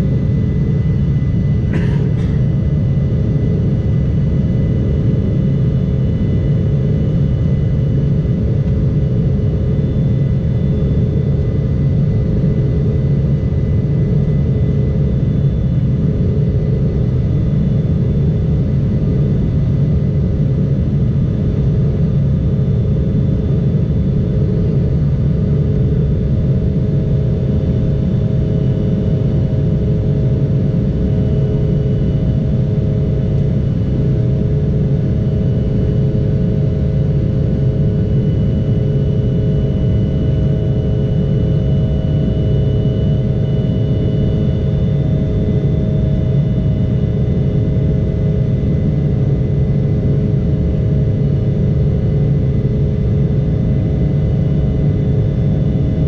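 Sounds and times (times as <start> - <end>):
steady hum tones: 0.0 - 56.0.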